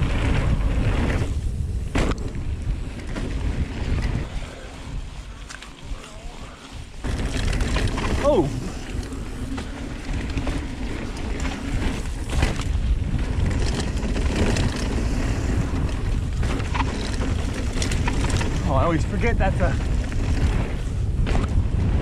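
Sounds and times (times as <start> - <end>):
bike tyres rumbling over dirt: 0.0 - 22.0.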